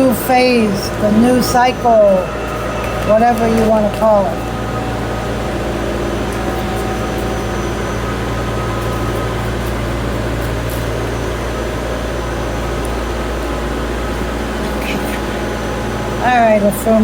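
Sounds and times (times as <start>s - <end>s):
machinery droning hum: 0.0s - 17.0s.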